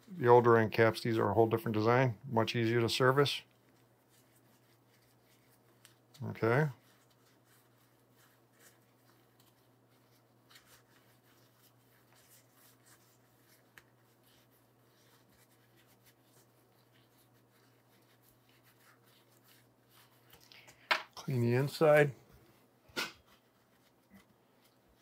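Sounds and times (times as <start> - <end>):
paper towel rustling: 0.0 - 20.5, 21.3 - 25.0.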